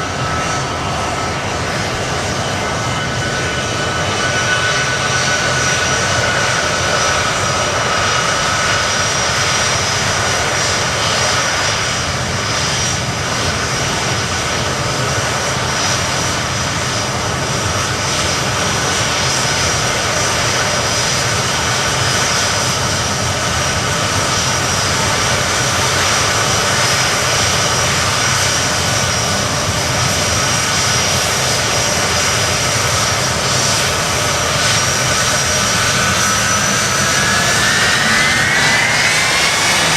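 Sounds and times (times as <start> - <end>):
high-pitched engine whines: 0.0 - 39.9
jet engines rushing: 0.0 - 39.9.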